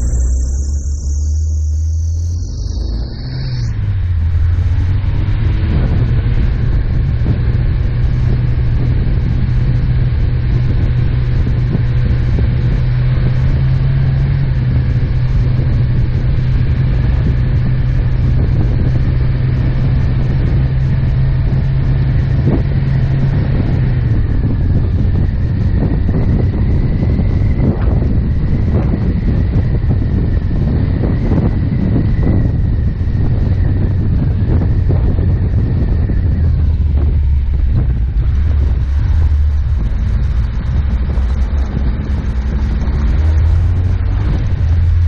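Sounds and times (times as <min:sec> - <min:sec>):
car engine droning: 0:00.0 - 0:45.0.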